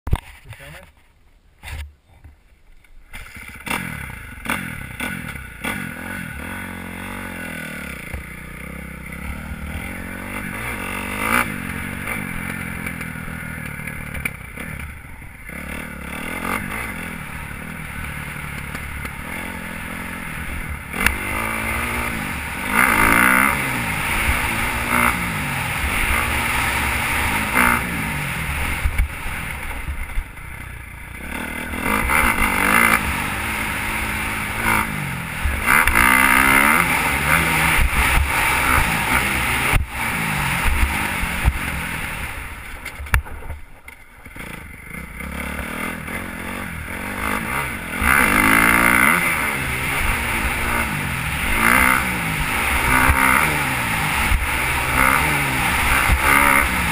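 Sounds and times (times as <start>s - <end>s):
dirt bike engine revving: 3.2s - 56.9s.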